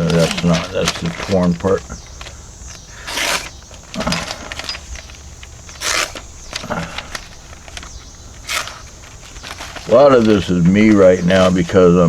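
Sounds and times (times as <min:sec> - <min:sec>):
knife slicing through paper: 0:00.0 - 0:11.7.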